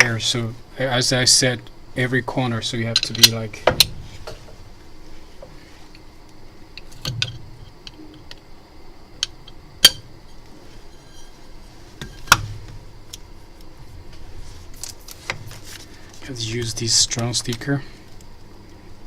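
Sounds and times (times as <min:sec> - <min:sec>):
faint high-pitched hum: 0:00.0 - 0:19.0.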